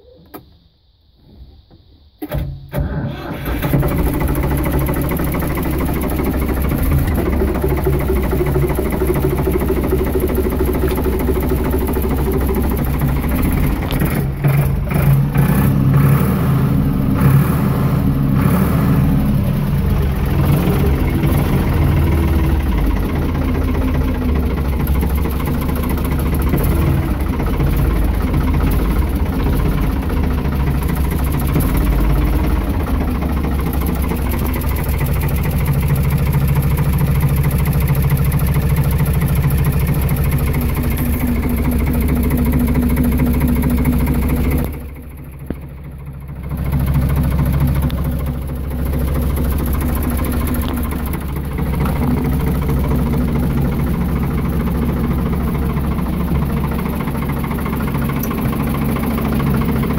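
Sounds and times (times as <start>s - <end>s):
tractor engine idling: 2.6s - 59.9s.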